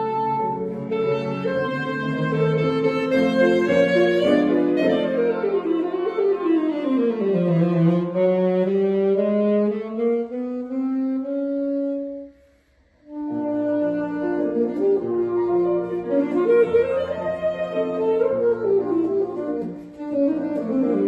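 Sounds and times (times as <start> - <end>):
saxophone playing classical solo: 0.0 - 12.4, 13.1 - 21.0.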